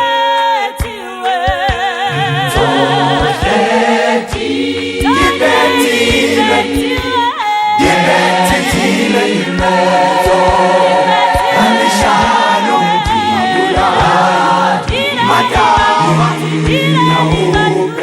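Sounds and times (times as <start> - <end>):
vocal group singing in harmony: 0.0 - 18.0
sharp percussive beat: 0.8 - 18.0.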